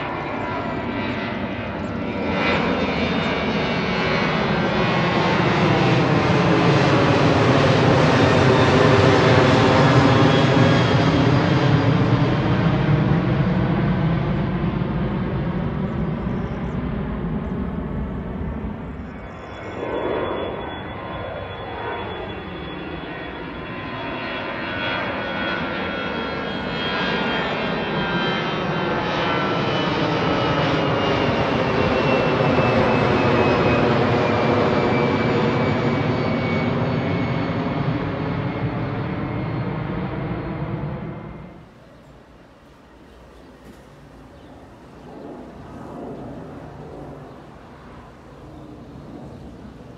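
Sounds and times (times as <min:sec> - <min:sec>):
jet airliner flying overhead: 0:00.0 - 0:49.9.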